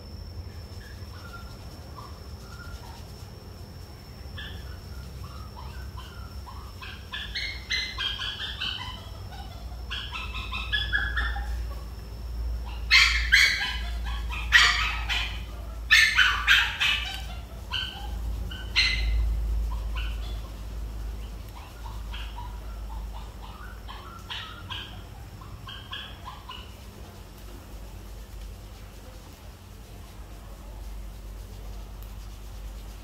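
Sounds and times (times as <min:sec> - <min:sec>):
high-pitched animal calls: 0:00.5 - 0:27.3.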